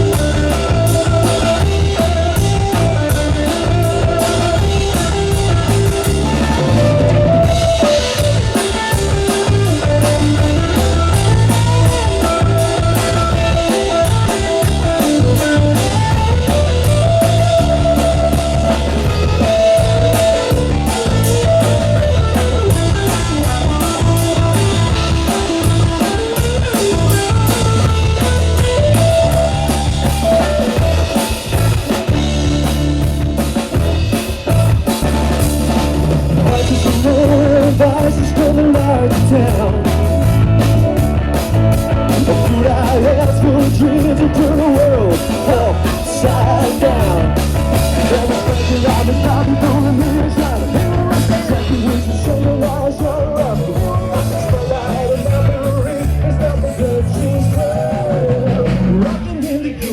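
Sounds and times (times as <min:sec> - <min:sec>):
drum-kit beat: 0:00.0 - 0:59.9
electric guitar: 0:00.0 - 0:59.9.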